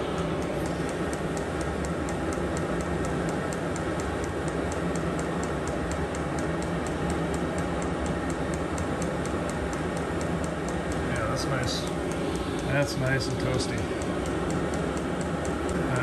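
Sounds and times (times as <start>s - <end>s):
fuel pump ticking: 0.0s - 16.0s
heater fan and burner rushing: 0.0s - 16.0s.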